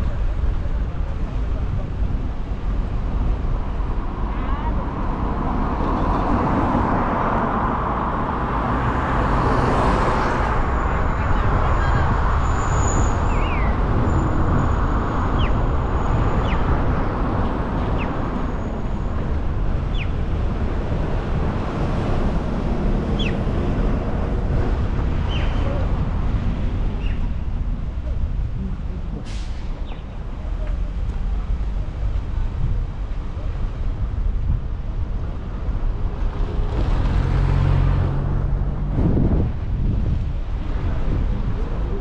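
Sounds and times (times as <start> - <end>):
road and wind rumble: 0.0 - 42.0.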